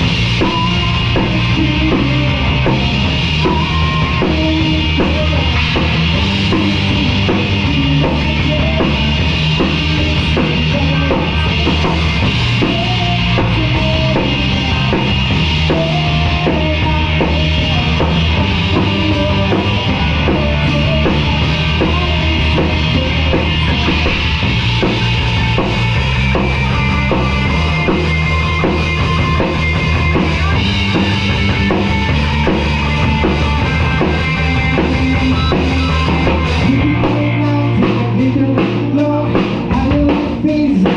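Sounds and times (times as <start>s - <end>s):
drum kit beat: 0.0s - 40.9s
live rock band playing: 0.0s - 40.9s.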